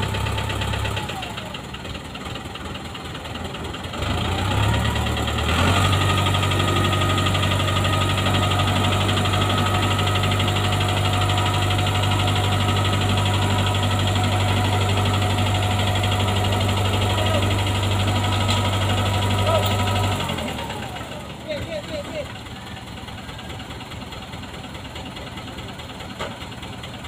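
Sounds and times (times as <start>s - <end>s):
tractor diesel engine: 0.0s - 27.0s.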